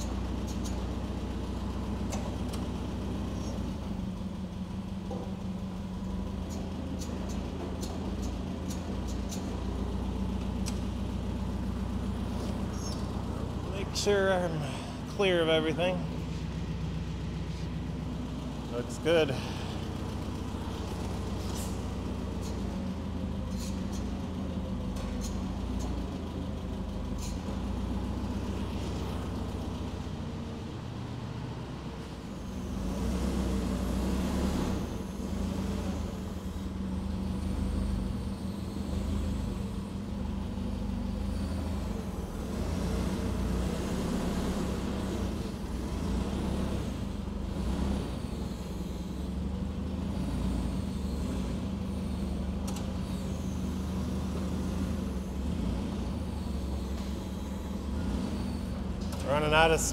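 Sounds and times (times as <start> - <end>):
machine engine running: 0.0 - 59.9.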